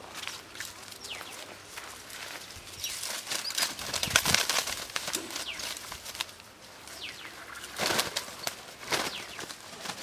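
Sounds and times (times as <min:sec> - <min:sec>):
twigs crackling underfoot: 0:00.0 - 0:10.0.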